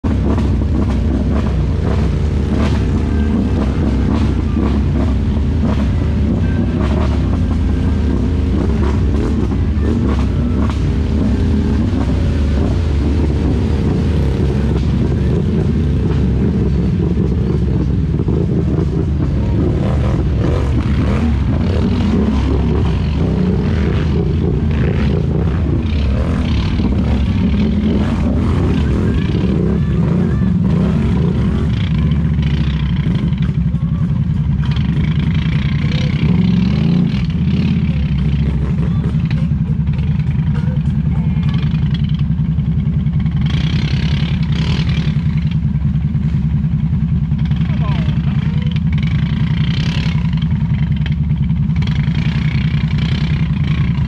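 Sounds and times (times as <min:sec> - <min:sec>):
atv engines running: 0:00.0 - 0:54.0.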